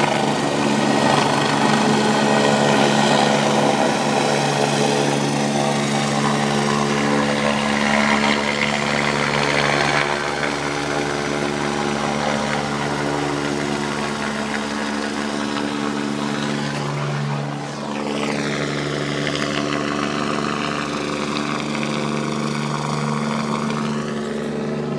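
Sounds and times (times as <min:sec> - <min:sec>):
helicopter flying overhead: 0:00.0 - 0:24.9.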